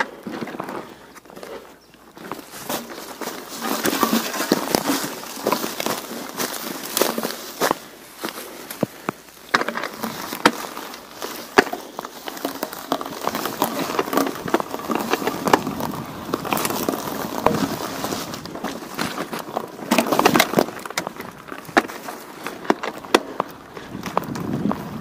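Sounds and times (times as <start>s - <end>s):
footsteps crunching on path: 0.0s - 25.0s
sharp crackles and clicks: 2.7s - 25.0s.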